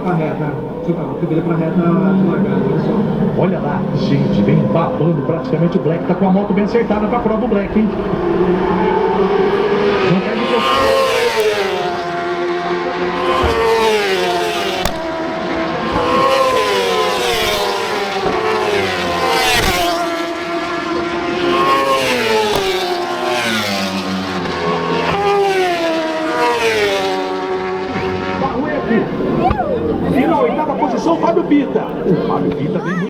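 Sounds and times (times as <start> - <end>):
racing motorcycle engines revving: 0.0 - 33.0.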